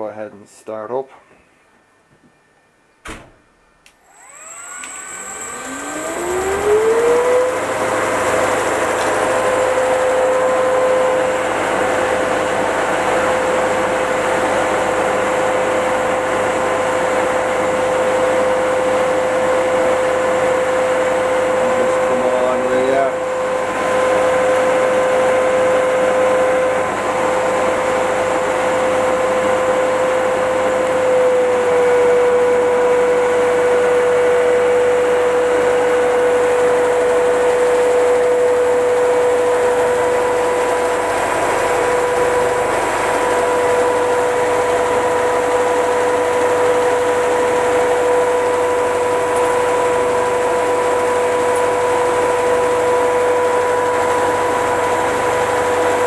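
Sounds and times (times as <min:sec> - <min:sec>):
motor and generator whine: 0:03.1 - 0:56.0.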